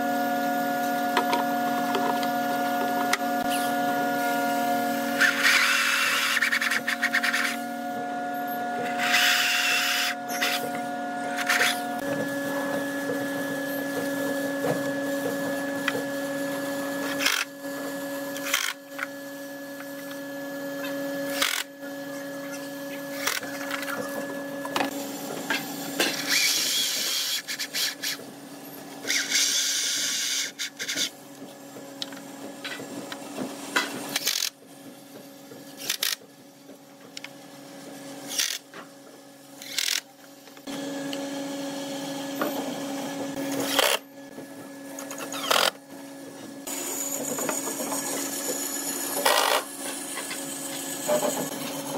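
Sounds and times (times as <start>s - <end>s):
electric drill whine: 0.0s - 31.1s, 38.3s - 38.6s, 39.6s - 40.0s, 40.6s - 44.3s, 45.0s - 51.9s.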